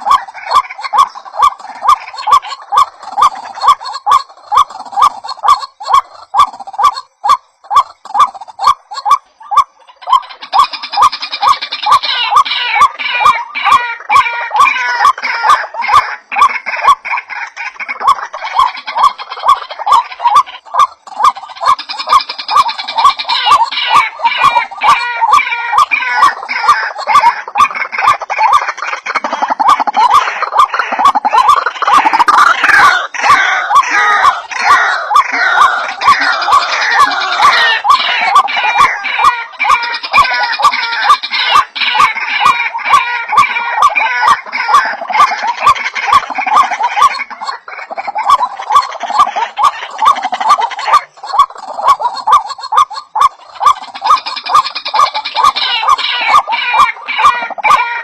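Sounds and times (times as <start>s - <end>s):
waterhens calling harshly: 0.0s - 58.0s.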